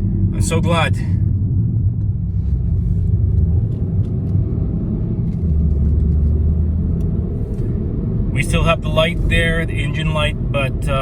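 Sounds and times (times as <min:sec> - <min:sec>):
car engine and road rumble: 0:00.0 - 0:11.0
low hum: 0:00.0 - 0:11.0.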